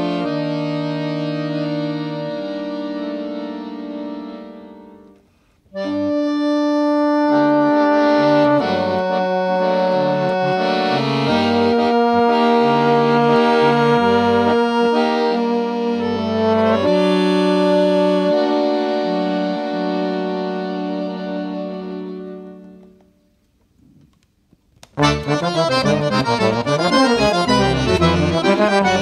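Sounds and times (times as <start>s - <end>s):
flugabone melody: 0.0s - 5.1s, 5.7s - 23.0s, 25.0s - 29.0s
accordion chords: 0.0s - 23.2s, 24.8s - 29.0s.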